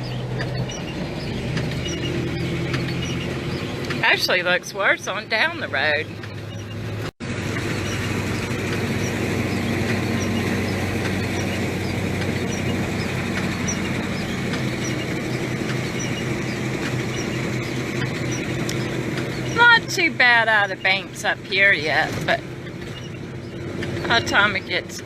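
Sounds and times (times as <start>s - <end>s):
road and tyre noise: 0.0s - 25.0s
vehicle engine hum: 0.0s - 25.0s.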